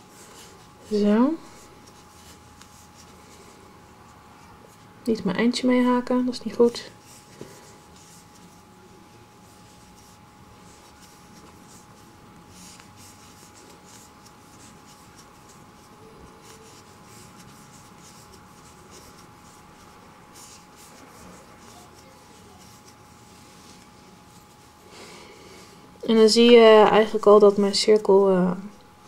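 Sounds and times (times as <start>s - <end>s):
yarn rustling with crochet hook: 0.0s - 24.9s.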